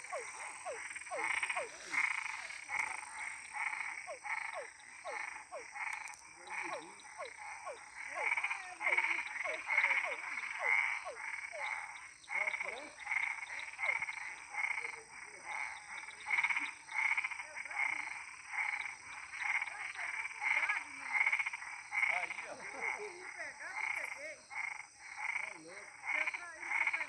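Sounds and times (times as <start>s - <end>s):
frogs calling: 0.0s - 27.0s
high insect drone: 0.0s - 27.0s.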